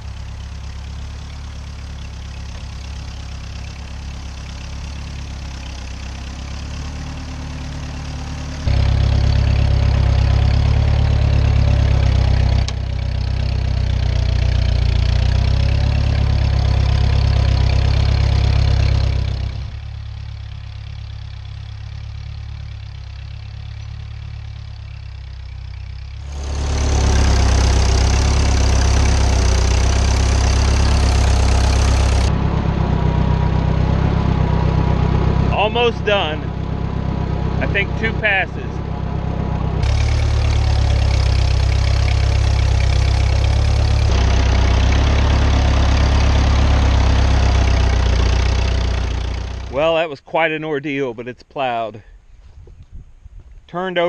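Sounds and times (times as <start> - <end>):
tractor engine running: 0.0 - 51.2.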